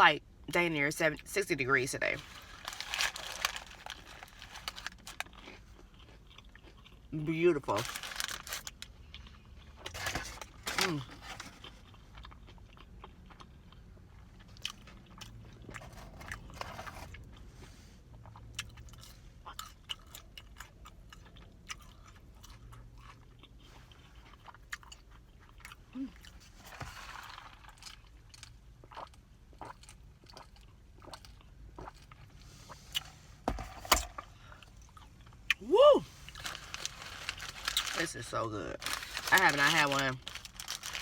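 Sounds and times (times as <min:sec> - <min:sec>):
crunching and chewing food: 0:02.1 - 0:41.0.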